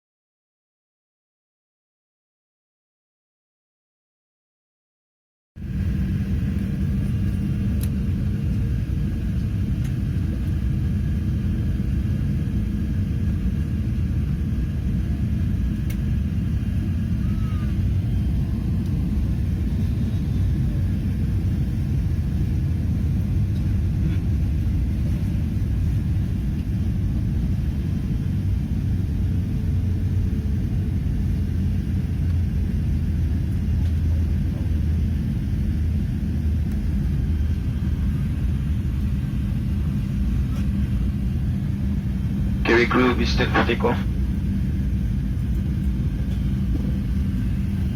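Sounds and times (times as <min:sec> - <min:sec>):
airliner engine rumble: 0:05.6 - 0:47.9.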